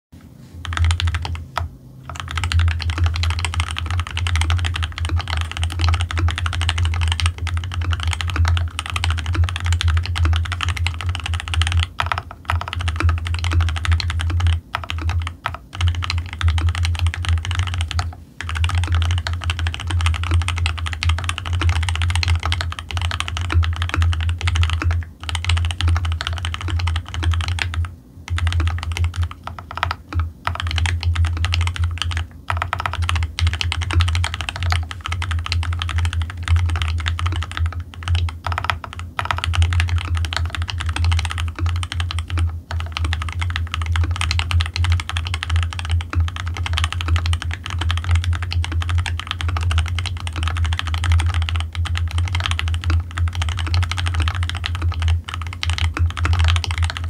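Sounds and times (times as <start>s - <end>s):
mechanical keyboard typing: 0.6s - 57.0s.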